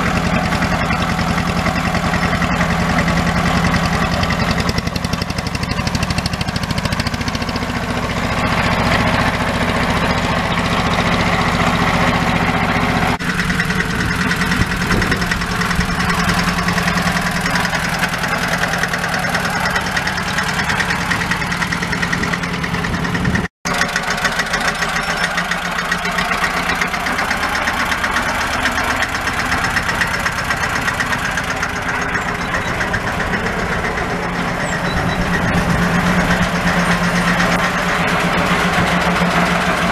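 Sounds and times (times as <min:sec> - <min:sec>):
diesel tractor engine knocking: 0:00.0 - 0:39.9.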